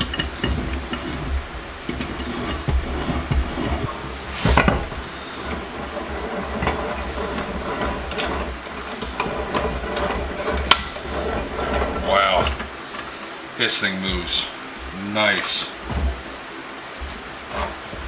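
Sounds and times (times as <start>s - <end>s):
metal clinks and scraping: 0.0s - 18.0s
steady low hum: 0.0s - 18.0s.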